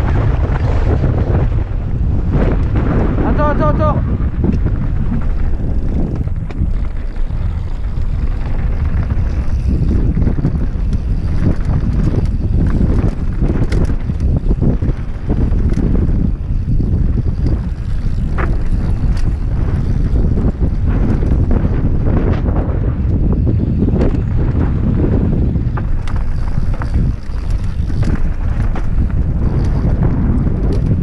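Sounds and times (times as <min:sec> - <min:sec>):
bike clicking and rattling: 0:00.0 - 0:31.0
tyres on dirt trail: 0:00.0 - 0:31.0
wind buffeting microphone: 0:00.0 - 0:31.0.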